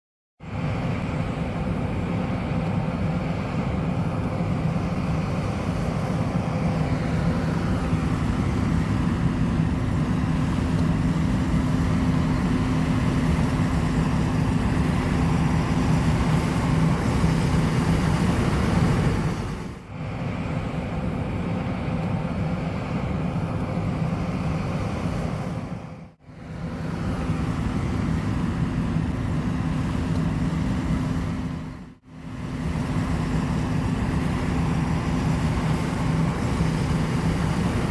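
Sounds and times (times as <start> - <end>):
combine harvester engine hum: 0.4 - 37.9
machinery rushing noise: 0.5 - 37.9.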